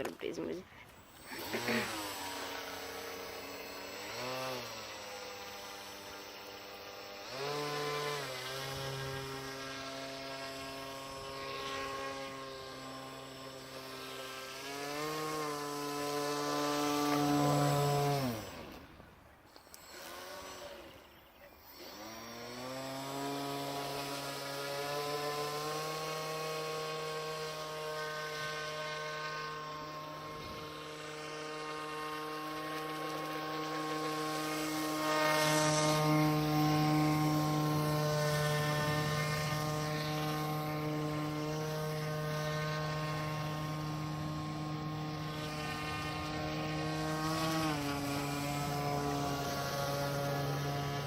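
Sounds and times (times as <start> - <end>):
model boat motor and propeller whine: 0.0 - 51.0.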